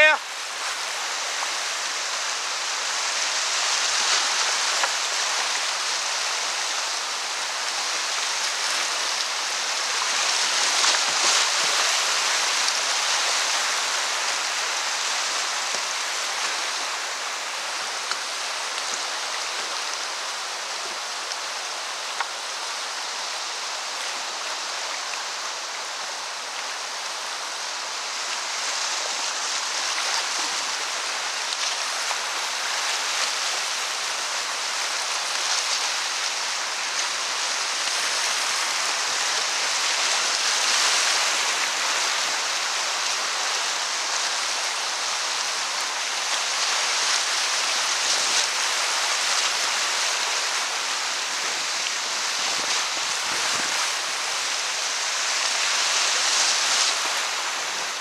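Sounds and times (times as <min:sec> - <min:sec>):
whitewater rushing over rocks: 0:00.0 - 0:58.0.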